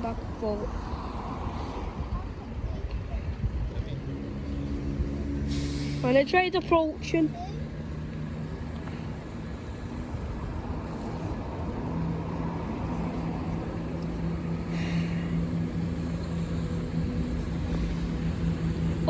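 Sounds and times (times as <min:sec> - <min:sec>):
diesel train engine drone: 0:00.0 - 0:19.0.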